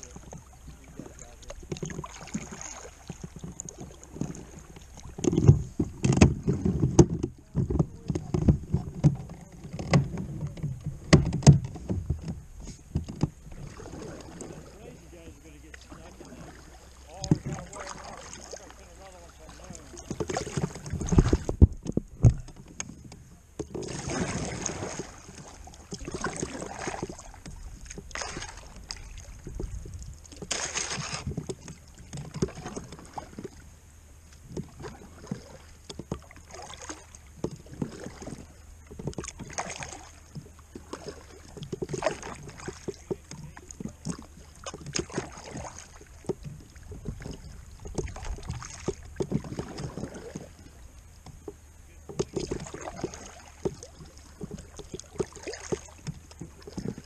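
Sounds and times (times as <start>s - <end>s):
paddle splashing in water: 0.0s - 57.0s.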